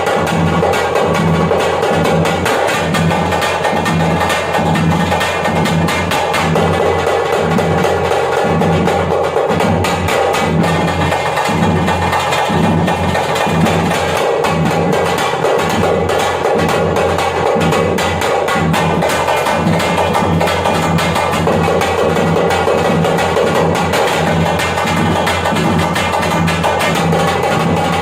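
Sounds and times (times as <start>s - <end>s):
frame drums beaten fast: 0.0s - 28.0s.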